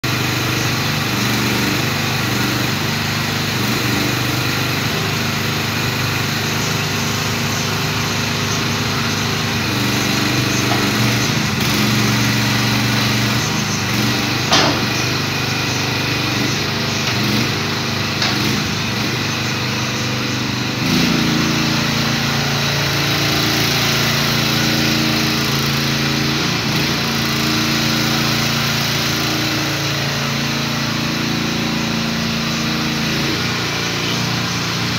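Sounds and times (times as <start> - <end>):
mini excavator engine running: 0.0 - 34.9.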